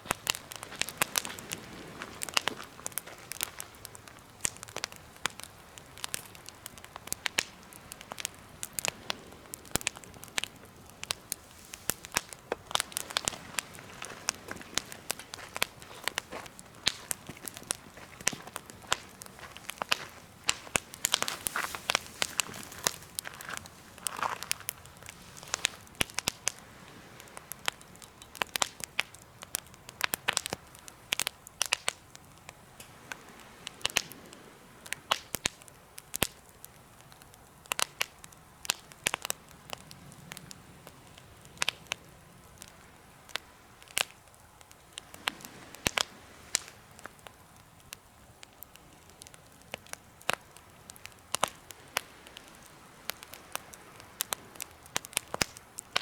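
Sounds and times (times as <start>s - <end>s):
campfire crackling: 0.0s - 56.0s
fire hissing: 0.0s - 56.0s.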